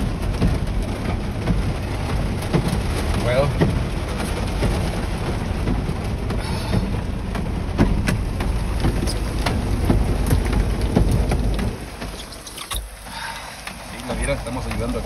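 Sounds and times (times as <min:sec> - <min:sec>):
low rumble: 0:00.0 - 0:12.1
heavy rain on car roof: 0:00.0 - 0:15.0.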